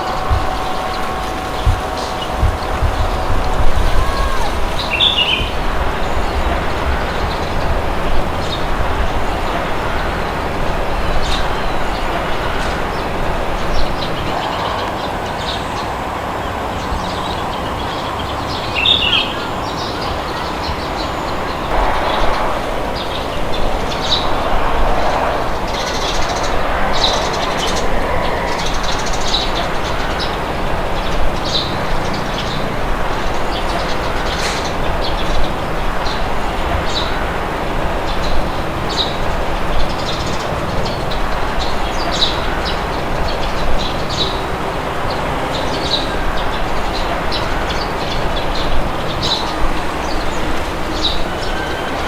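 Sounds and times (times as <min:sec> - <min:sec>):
small birds chirping: 0:00.0 - 0:52.0
wind blowing: 0:00.0 - 0:52.0.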